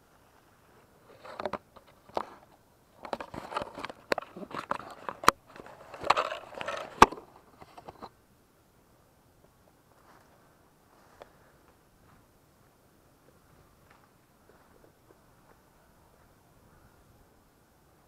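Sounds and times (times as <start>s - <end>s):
leaves and branches rustling: 0.0s - 8.2s, 9.4s - 18.0s.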